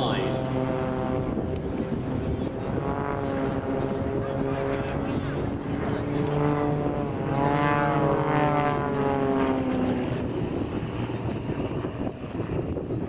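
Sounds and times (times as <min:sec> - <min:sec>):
propeller aircraft flying past: 0:00.0 - 0:13.0.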